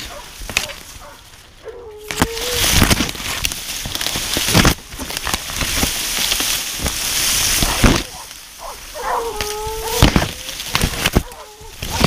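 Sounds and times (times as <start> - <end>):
brush crackling and rustling: 0.0 - 12.0.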